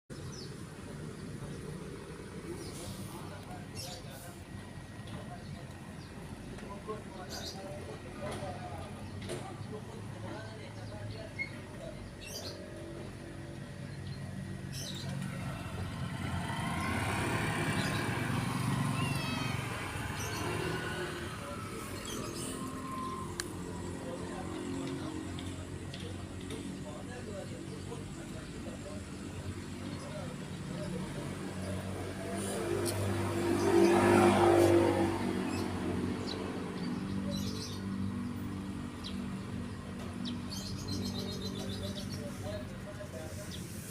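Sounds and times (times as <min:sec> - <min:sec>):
small birds chirping: 0:00.1 - 0:43.9.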